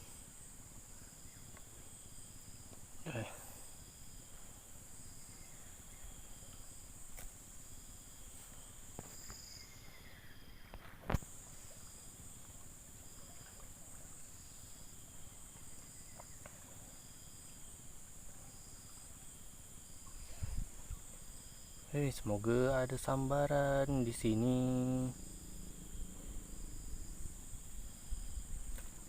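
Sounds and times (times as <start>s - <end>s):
insect buzz: 0.0s - 29.0s
pulsing insect chirp: 0.0s - 29.0s.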